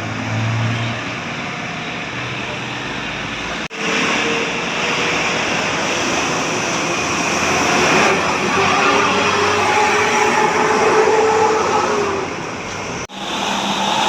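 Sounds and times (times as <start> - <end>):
bus passing close by: 0.0 - 14.0.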